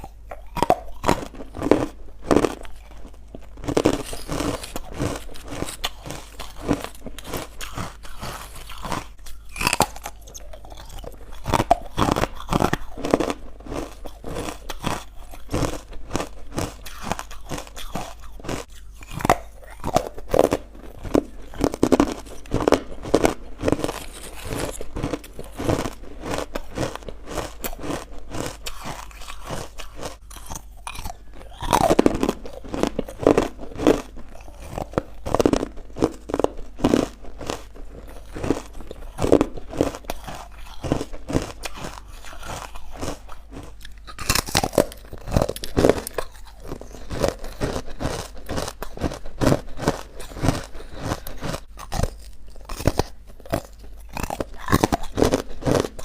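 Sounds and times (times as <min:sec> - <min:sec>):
ice crunching between teeth: 0:00.0 - 0:56.0.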